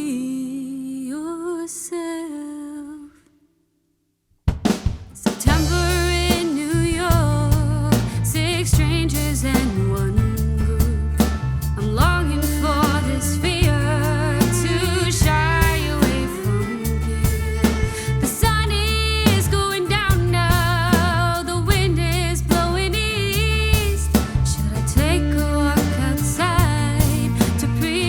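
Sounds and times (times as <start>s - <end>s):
pop-soul song: 0.0s - 3.2s, 5.2s - 28.0s
bass and drums: 4.5s - 28.0s
singer with vibrato: 5.2s - 28.0s.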